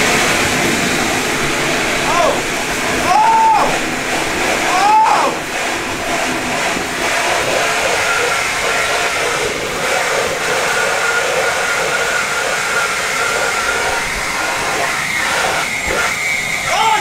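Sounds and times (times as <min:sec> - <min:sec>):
leaf blower whining: 0:00.0 - 0:17.0
water spraying: 0:00.0 - 0:17.0.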